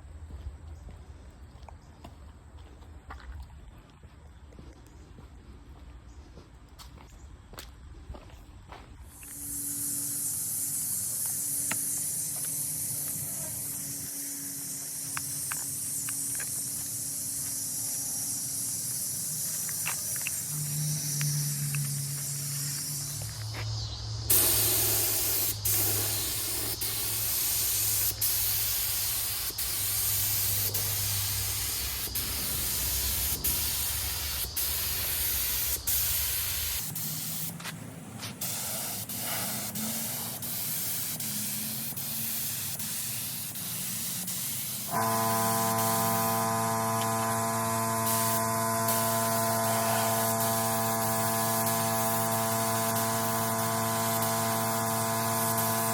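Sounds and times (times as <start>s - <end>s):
spraying hiss: 9.0s - 55.9s.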